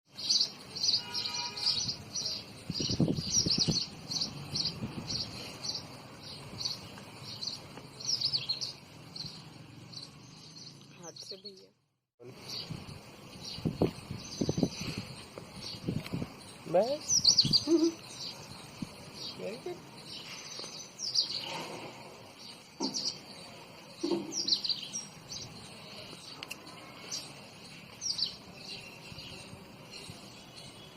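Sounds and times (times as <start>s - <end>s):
small bird chirping: 0.1s - 11.7s, 12.3s - 30.9s.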